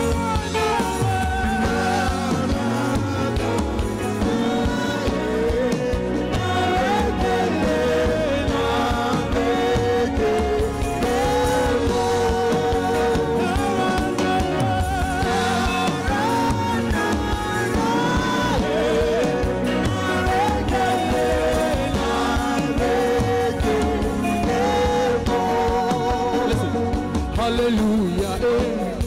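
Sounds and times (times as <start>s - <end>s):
band backing: 0.0s - 29.0s
singers holding long notes: 0.0s - 29.0s.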